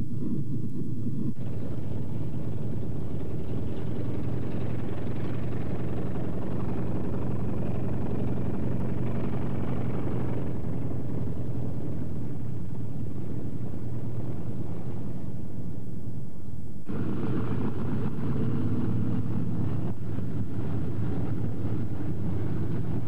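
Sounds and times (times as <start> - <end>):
radial aircraft engines droning: 0.0 - 23.0.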